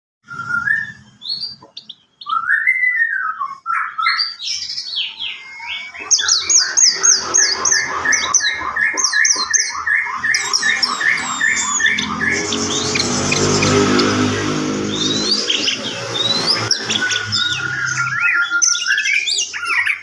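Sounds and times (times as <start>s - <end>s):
bird singing: 0.2s - 20.0s.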